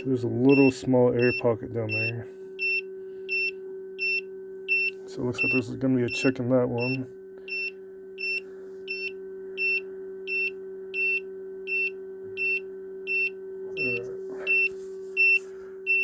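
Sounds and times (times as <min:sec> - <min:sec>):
high-pitched alarm beeps: 0:00.0 - 0:16.0
low electrical hum: 0:00.0 - 0:16.0.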